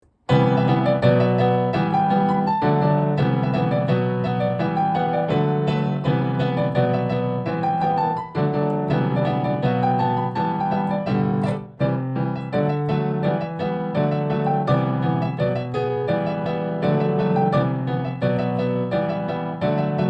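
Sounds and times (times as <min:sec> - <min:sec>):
keyboard playing pop melody: 0:00.3 - 0:20.0.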